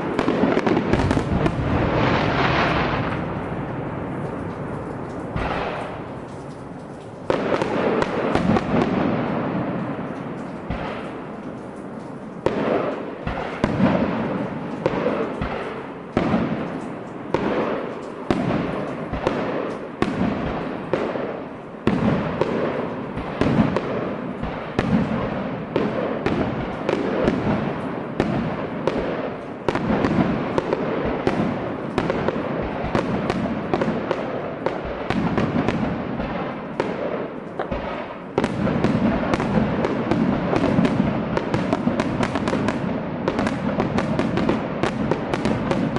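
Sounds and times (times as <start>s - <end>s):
firework shells bursting: 0.0s - 45.9s
fireworks crackle: 0.0s - 45.9s.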